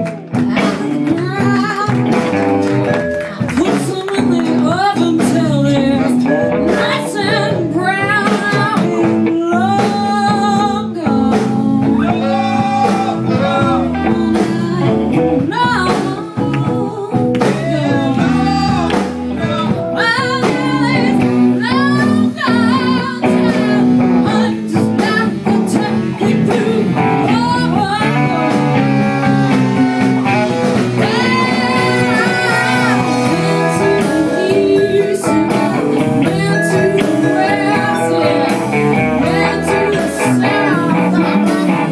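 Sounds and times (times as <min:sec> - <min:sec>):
guitar melody: 0:00.0 - 0:41.9
live blues band playing: 0:00.0 - 0:41.9
person singing: 0:00.0 - 0:41.9.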